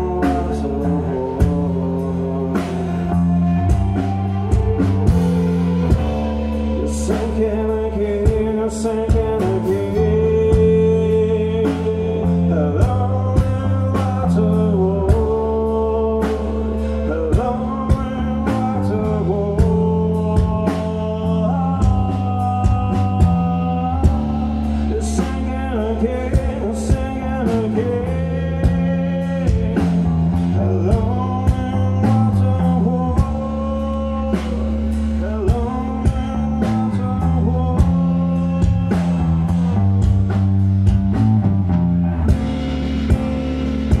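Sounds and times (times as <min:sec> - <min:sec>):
person singing: 0:00.0 - 0:40.6
bass guitar: 0:00.0 - 0:44.0
drums: 0:00.0 - 0:44.0
electric guitars: 0:00.0 - 0:44.0.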